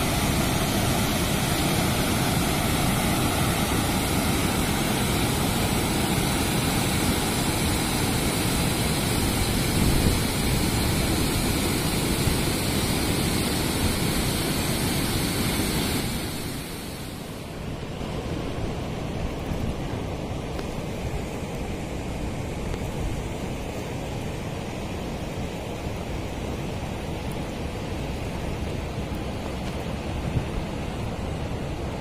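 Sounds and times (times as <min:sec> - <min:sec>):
water rushing through open gates: 0:00.0 - 0:32.0.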